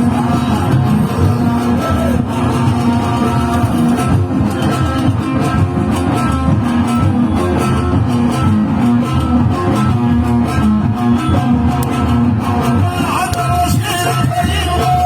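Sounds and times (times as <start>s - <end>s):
plucked string instrument: 0.0s - 15.0s
repeating bass line: 0.0s - 15.0s
steady beat: 0.0s - 15.0s.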